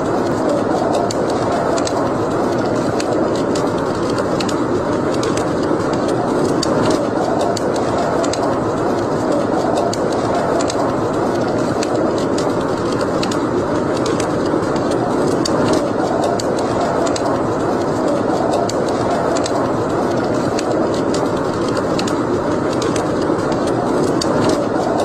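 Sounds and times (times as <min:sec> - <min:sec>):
wood fire crackling in fireplace: 0:00.0 - 0:25.0.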